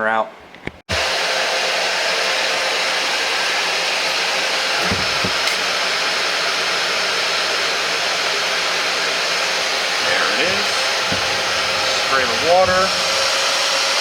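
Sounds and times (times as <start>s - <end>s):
spot cleaner suction motor running: 0.9s - 14.0s.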